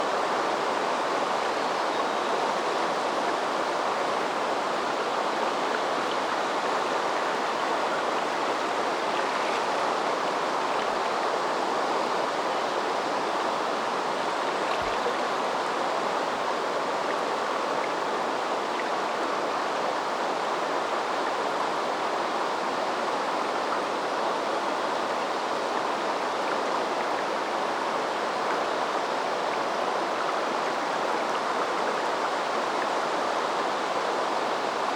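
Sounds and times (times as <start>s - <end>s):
river water rushing over stones: 0.0s - 34.9s.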